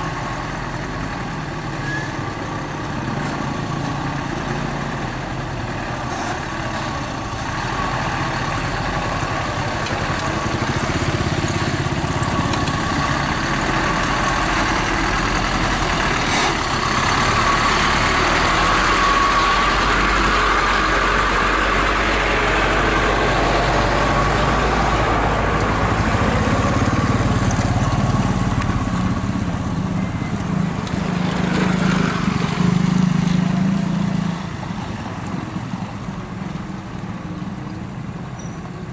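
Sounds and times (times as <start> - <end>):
road noise: 0.0 - 38.9
truck engines: 0.0 - 38.9.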